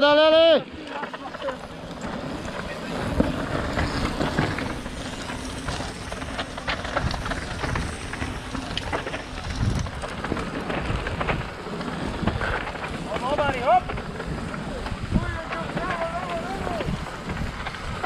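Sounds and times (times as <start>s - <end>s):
wind buffeting microphone: 0.6s - 18.0s.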